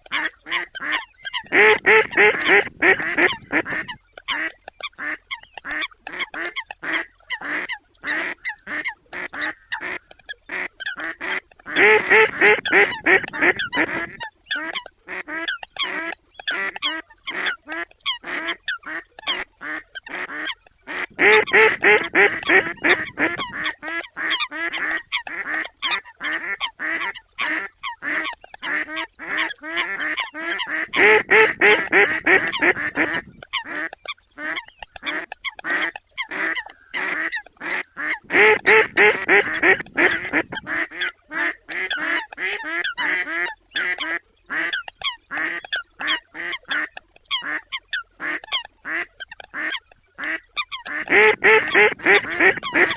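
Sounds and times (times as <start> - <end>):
coots and ducks calling: 0.0 - 52.9
ducks quacking: 0.0 - 52.9
short nasal honking calls: 0.1 - 47.6, 48.2 - 52.9.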